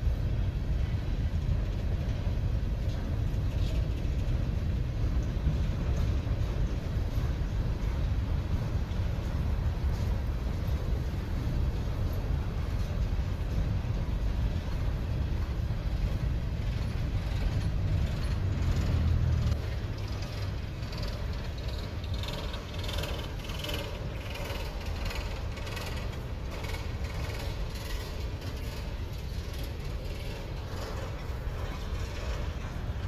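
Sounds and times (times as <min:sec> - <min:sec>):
diesel locomotive rumble: 0:00.0 - 0:33.0
freight cars rattling and knocking: 0:00.7 - 0:33.0.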